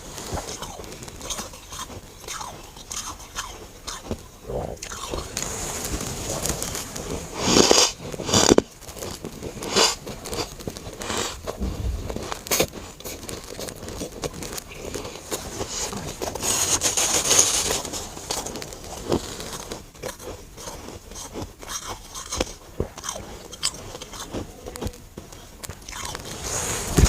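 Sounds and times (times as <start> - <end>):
chewing frost chunks crunching: 0.1 - 5.4, 6.3 - 27.0.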